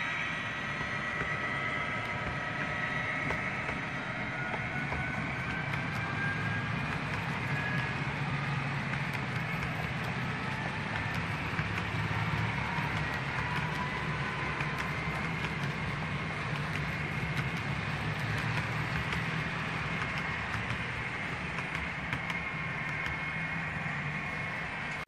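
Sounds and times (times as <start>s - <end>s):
model train motor and wheels rumbling: 0.0s - 25.0s.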